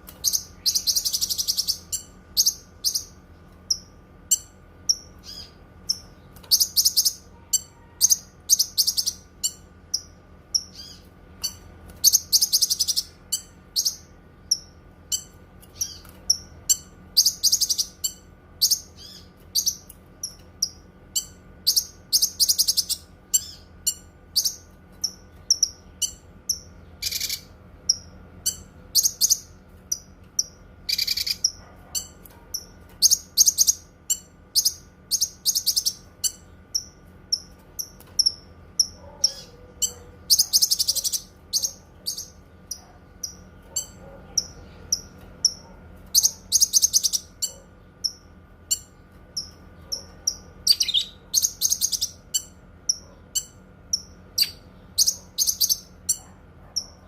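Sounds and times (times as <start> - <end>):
songbird chirping and rattling: 0.0 - 57.0.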